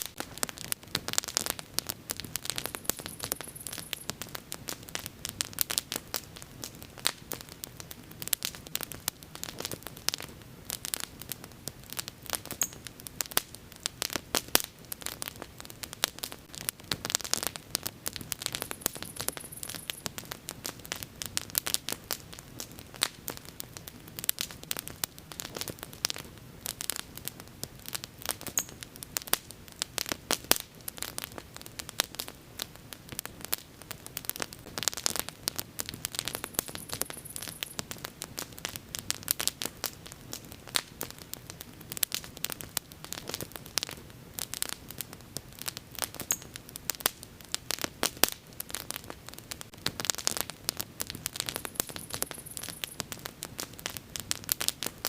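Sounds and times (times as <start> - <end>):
bonfire crackling and popping: 0.0 - 55.0.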